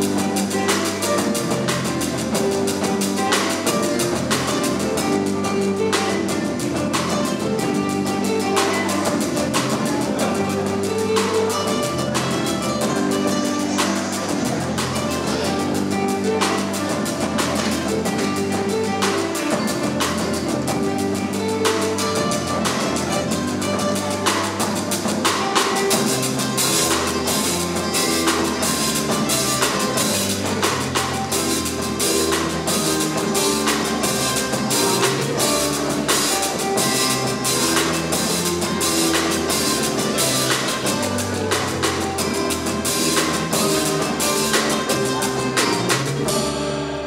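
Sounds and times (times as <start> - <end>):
acoustic guitars playing: 0.0 - 47.0
drum kit beat: 0.0 - 47.0
electric bass playing: 0.0 - 47.0.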